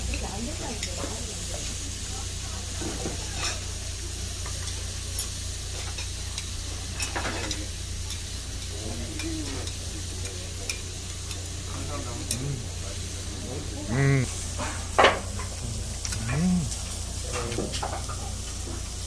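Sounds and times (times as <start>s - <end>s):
meat sizzling on a griddle: 0.0s - 19.0s.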